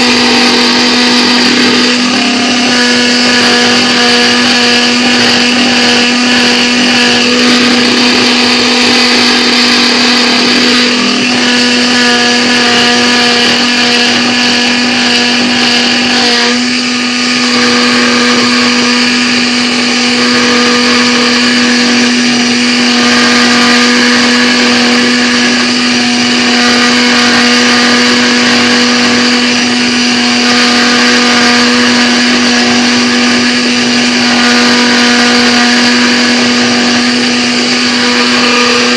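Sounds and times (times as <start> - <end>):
mill motor whine: 0.0 - 38.9.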